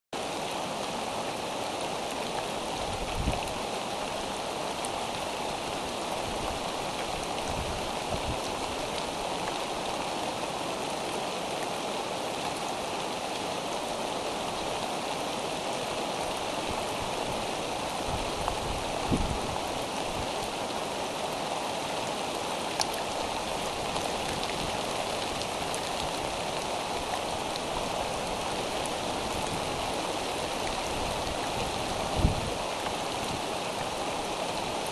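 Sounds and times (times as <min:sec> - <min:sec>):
rain falling on microphone: 0:00.2 - 0:34.9.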